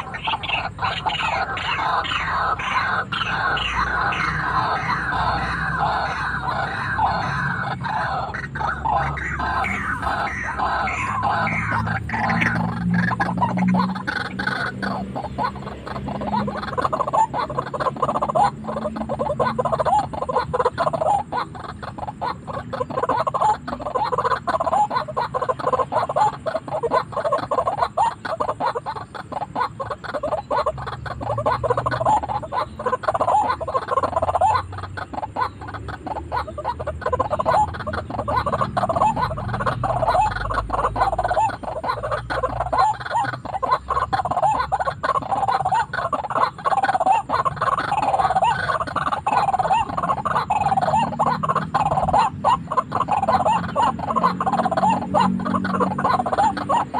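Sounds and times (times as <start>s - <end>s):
waterhens calling: 0.0s - 56.9s.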